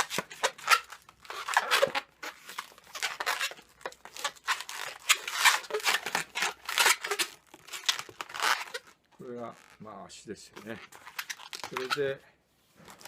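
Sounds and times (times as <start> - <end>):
balloon squeaking and rubbing: 0.0 - 9.9, 10.5 - 13.0.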